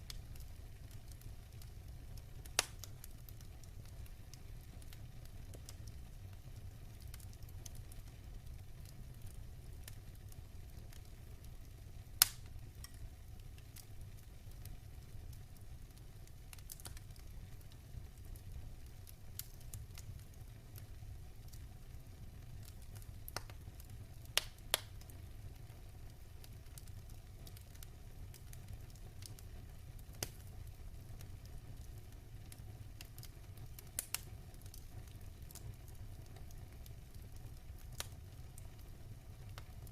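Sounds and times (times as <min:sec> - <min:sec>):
sharp pops of fire: 0:00.0 - 0:06.1, 0:09.2 - 0:17.4, 0:18.8 - 0:21.6, 0:22.6 - 0:25.7, 0:26.4 - 0:38.8
wood fire crackling: 0:00.0 - 0:39.9.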